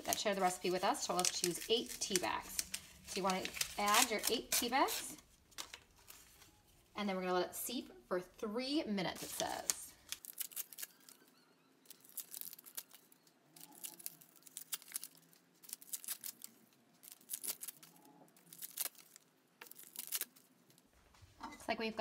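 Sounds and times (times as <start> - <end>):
paper crinkling and tearing: 0.0 - 6.5, 9.1 - 20.9.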